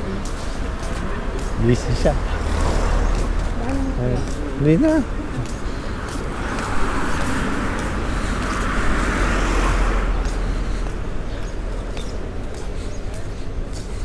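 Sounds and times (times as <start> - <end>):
car passing: 0.0 - 14.0.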